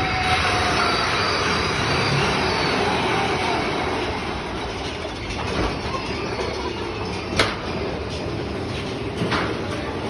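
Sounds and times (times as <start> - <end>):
roller coaster cars rumbling: 0.0 - 10.0.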